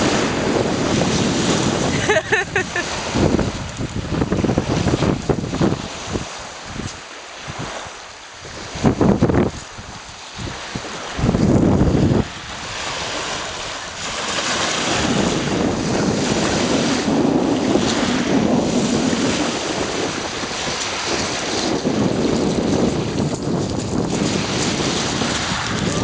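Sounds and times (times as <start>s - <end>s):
waves washing over pebbles: 0.0s - 26.0s
wind rumbling on microphone: 0.0s - 26.0s.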